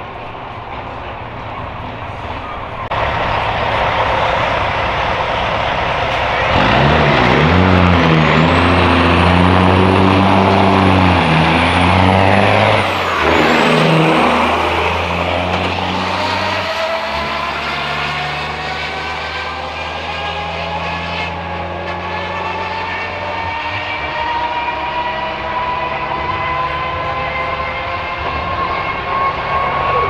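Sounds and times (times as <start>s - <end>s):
diesel truck engine passing: 0.0s - 30.0s.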